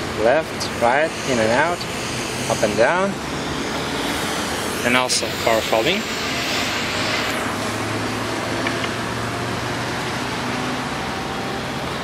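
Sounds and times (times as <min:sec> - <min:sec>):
mirror motor humming: 0:00.6 - 0:11.7.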